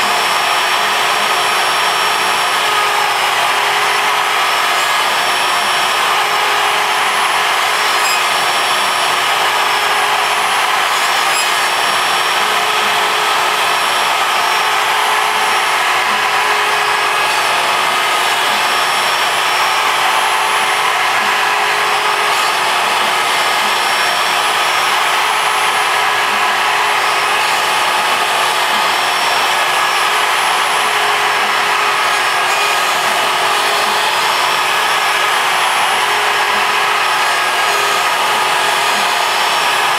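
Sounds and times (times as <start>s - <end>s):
router spindle cutting wood: 0.0s - 39.9s
vacuum drawing air through hose: 0.0s - 39.9s.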